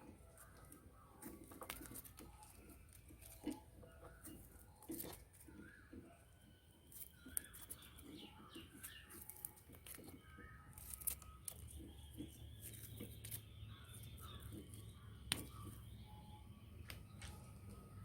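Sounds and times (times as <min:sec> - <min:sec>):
small birds chirping: 0:00.0 - 0:18.0
hands handling wiring: 0:00.3 - 0:05.8, 0:06.9 - 0:15.9.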